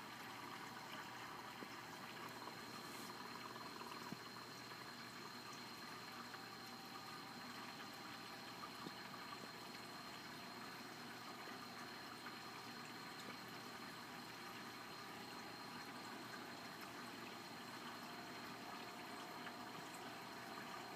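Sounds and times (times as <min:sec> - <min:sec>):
water rushing in aquarium: 0:00.0 - 0:20.9.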